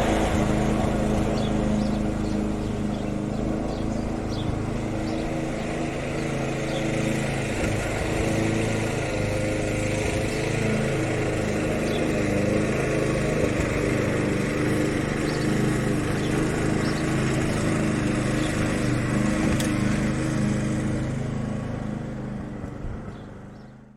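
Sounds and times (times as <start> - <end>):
lawn mower engine running: 0.0 - 23.9.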